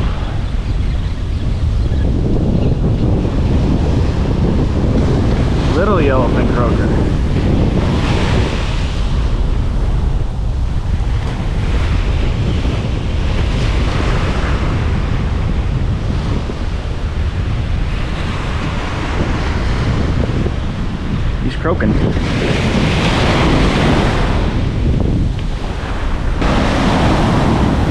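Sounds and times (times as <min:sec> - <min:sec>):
wind buffeting microphone: 0:00.0 - 0:27.9
surf breaking: 0:03.2 - 0:27.9.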